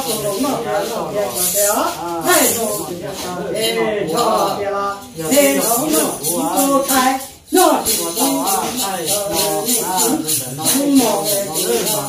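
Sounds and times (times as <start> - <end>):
man singing: 0.0 - 12.0
rhythmic jingling: 0.0 - 12.0.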